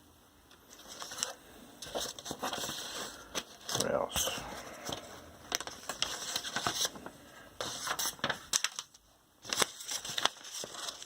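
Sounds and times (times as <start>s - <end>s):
paper and packaging rustling: 0.6s - 11.0s.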